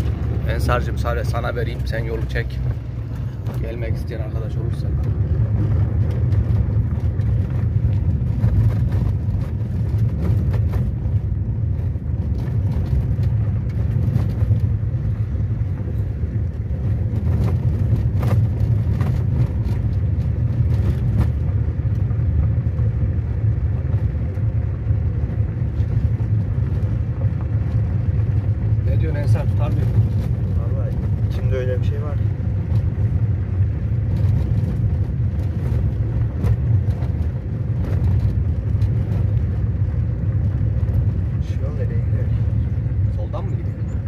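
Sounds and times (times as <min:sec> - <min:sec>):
car engine rumble: 0:00.0 - 0:44.0
tyres on loose gravel: 0:00.0 - 0:44.0.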